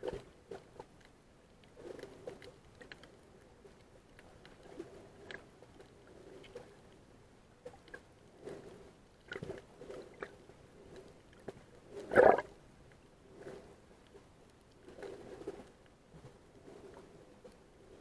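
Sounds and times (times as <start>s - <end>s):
underwater clicks and crackles: 0.0s - 18.0s.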